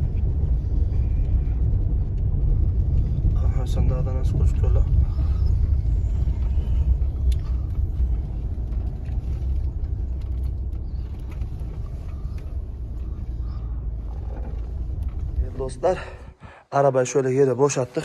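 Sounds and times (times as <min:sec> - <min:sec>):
car interior driving rumble: 0:00.0 - 0:16.4.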